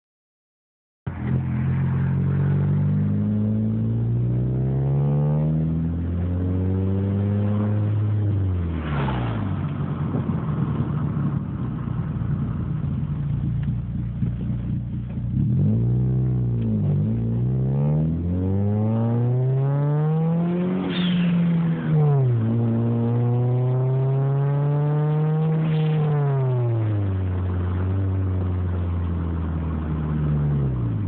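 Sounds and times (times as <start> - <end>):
car engine revving: 1.1 - 31.0.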